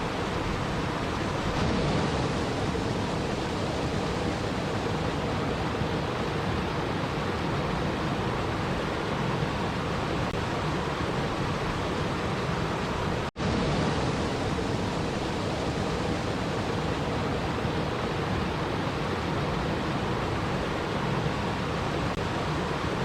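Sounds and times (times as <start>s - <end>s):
rushing water: 0.0s - 23.0s.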